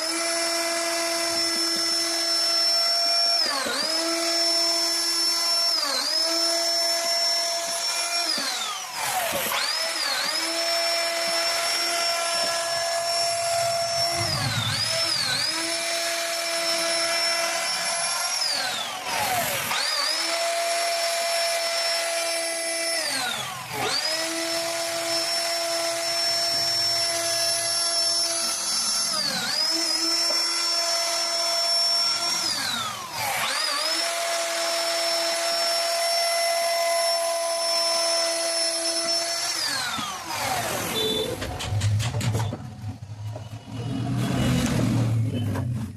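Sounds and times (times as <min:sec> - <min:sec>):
router spindle whine cutting wood: 0:00.0 - 0:45.9.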